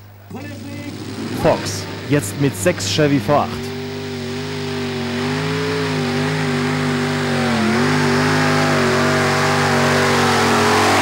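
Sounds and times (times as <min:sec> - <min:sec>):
tractor engines roaring: 0:00.0 - 0:11.0.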